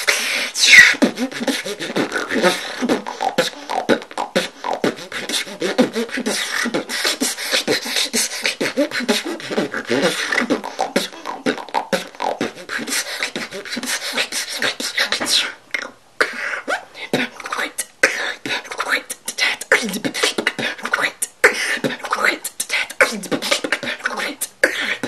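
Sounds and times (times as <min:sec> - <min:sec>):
woman beatboxing: 0:00.0 - 0:25.0.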